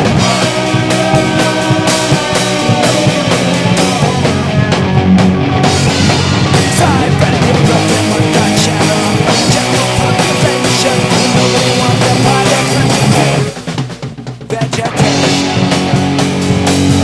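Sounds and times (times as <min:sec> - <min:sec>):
electric guitar: 0:00.0 - 0:14.0, 0:14.6 - 0:17.0
drums: 0:00.0 - 0:17.0
punk rock music: 0:00.0 - 0:17.0.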